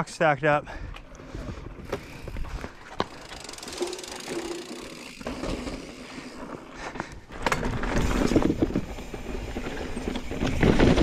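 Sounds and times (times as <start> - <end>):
bike rattling: 1.0 - 11.0
bike tyres crunching on rock: 1.7 - 11.0.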